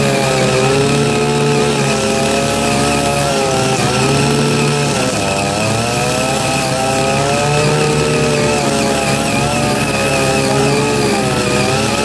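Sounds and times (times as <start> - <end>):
tiller engine running under load: 0.0 - 12.0.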